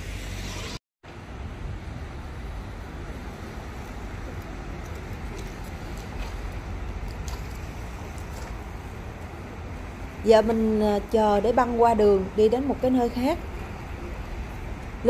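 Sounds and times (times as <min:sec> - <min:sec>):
street ambience hiss: 0:00.0 - 0:15.0
wind rumbling on microphone: 0:00.0 - 0:15.0.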